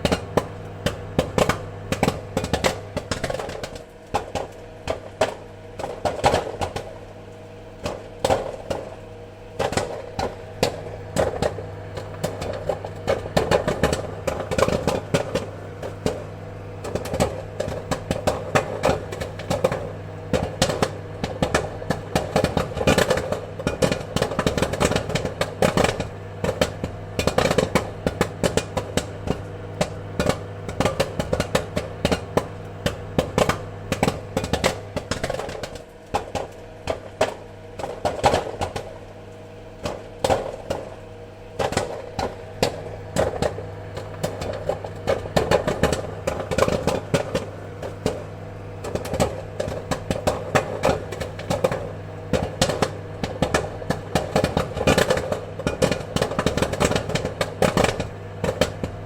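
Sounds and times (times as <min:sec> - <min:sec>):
popcorn popping: 0:00.0 - 0:59.0
steady low hum: 0:00.0 - 0:59.0.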